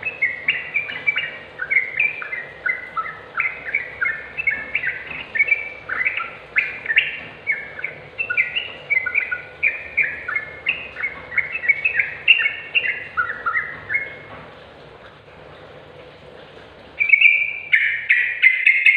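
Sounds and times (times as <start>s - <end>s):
bird singing whistled notes: 0.0s - 14.3s, 17.0s - 18.9s.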